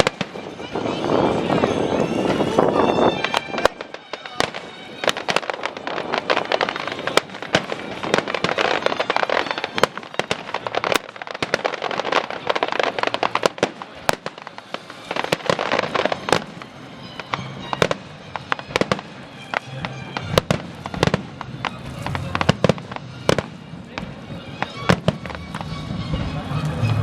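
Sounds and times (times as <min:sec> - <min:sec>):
sharp bangs and crackles: 0:00.0 - 0:27.0.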